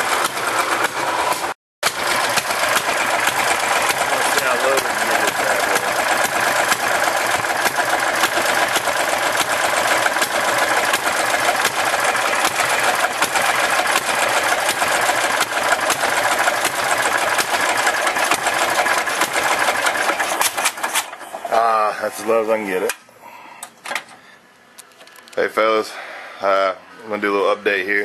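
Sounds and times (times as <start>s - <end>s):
tractor engine idling: 0.0s - 22.8s.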